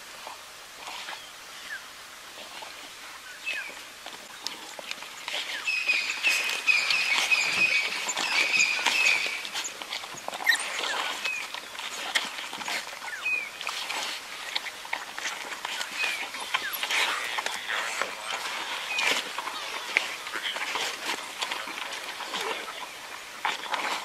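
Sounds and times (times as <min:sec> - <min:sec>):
feeding clicks and rustles: 0:02.3 - 0:24.0
wild dogs squeaking and chirping: 0:03.4 - 0:24.0.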